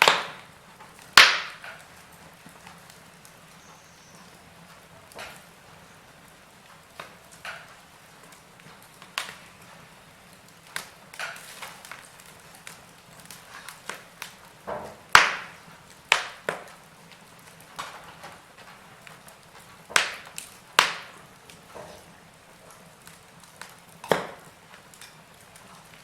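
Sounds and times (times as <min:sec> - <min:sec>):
faint steady hiss: 0:00.0 - 0:26.0
fire crackling and popping: 0:00.0 - 0:26.0.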